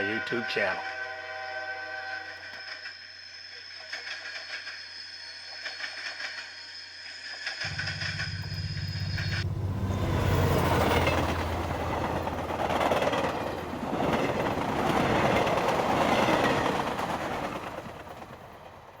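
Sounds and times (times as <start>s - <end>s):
model trains clickety-clack: 2.4s - 9.4s, 10.5s - 19.0s.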